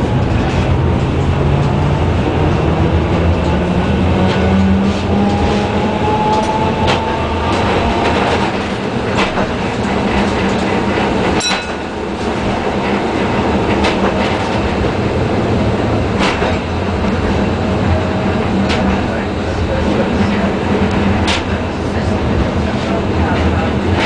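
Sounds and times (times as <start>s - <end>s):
tram rumbling along track: 0.0s - 24.0s.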